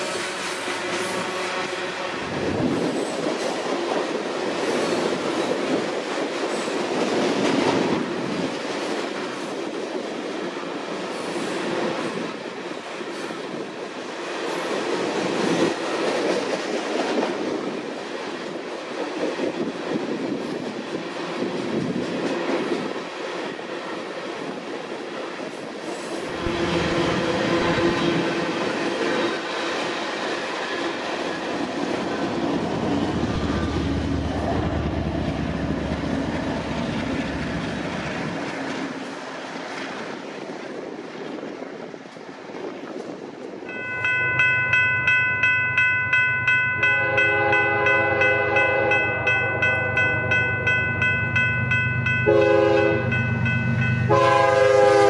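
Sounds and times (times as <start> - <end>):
train cars rolling on rails: 0.0 - 55.0.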